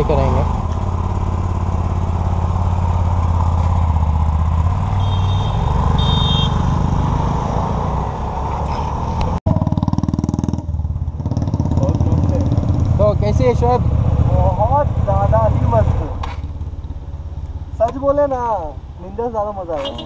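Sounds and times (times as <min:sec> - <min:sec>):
motorcycle engine running: 0:00.0 - 0:07.3, 0:09.5 - 0:20.0.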